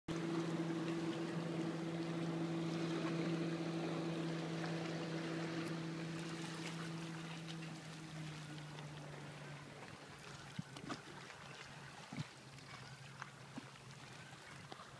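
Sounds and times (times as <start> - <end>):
motorboat engine humming: 0.1 - 14.9
rushing water: 0.1 - 14.9.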